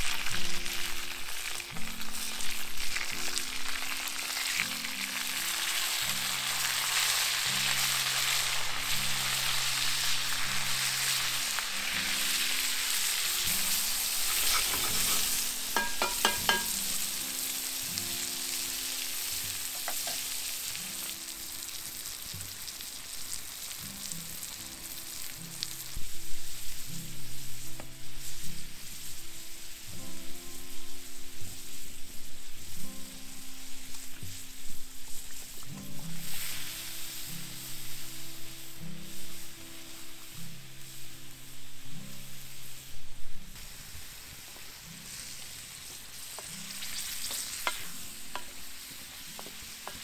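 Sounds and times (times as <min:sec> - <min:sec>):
food sizzling in a pot: 0:00.0 - 0:50.0
soft music: 0:00.0 - 0:50.0.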